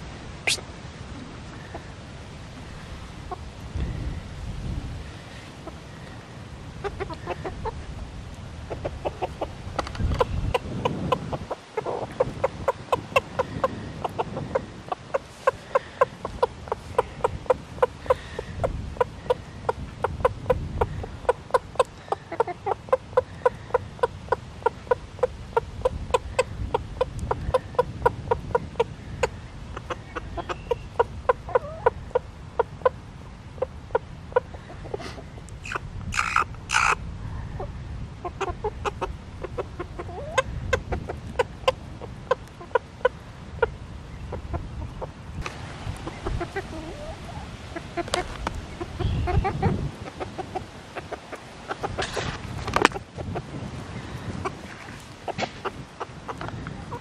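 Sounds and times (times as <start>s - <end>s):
hens clucking: 0.0s - 4.2s, 5.0s - 37.0s, 37.6s - 57.0s.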